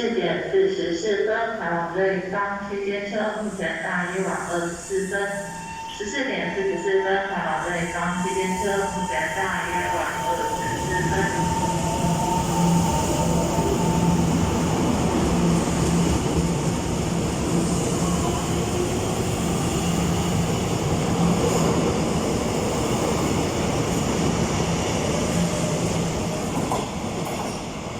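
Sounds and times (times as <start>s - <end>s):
electric train running on rails: 3.2s - 27.9s.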